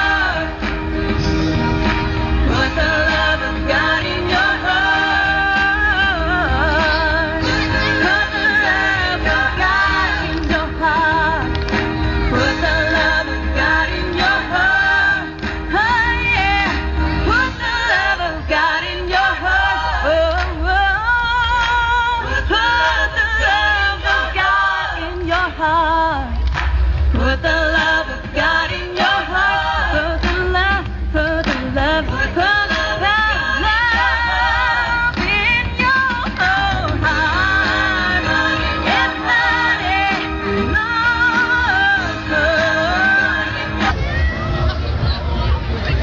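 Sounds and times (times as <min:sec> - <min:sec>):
instrumental backing with bass: 0:00.0 - 0:46.0.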